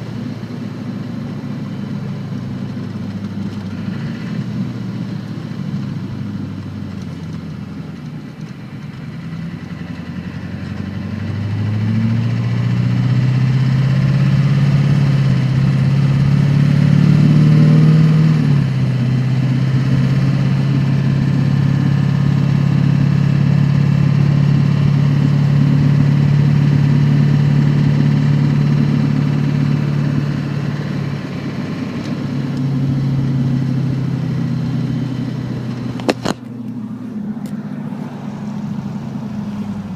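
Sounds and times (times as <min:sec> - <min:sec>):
car accelerating drone: 0:00.0 - 0:39.9.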